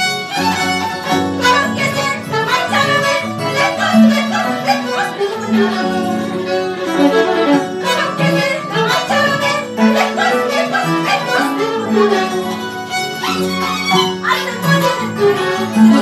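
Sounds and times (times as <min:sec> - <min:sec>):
bowed melody line: 0:00.0 - 0:16.0.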